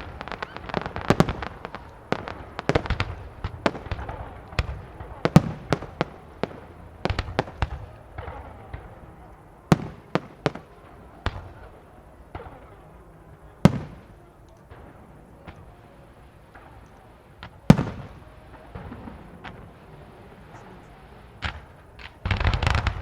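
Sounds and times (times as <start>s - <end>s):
fireworks bursting: 0.0s - 23.0s
fireworks crackle: 0.0s - 23.0s
loud firework bangs: 0.0s - 23.0s.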